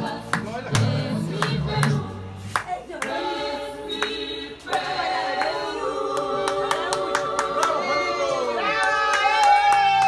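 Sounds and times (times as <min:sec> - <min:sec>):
voices singing together: 0:00.0 - 0:08.7.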